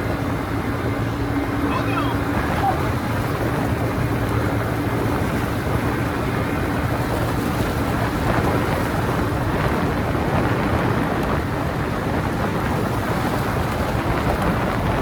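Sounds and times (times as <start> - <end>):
vehicle engine and road rumble: 0.0 - 15.0
wind noise on microphone: 0.0 - 15.0.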